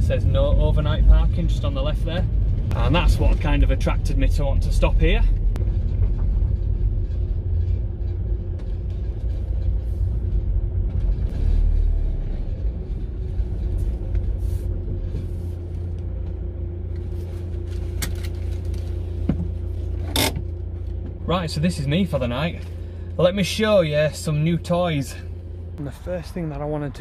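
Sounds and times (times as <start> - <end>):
low road rumble: 0.0 - 27.0
van engine: 0.0 - 27.0.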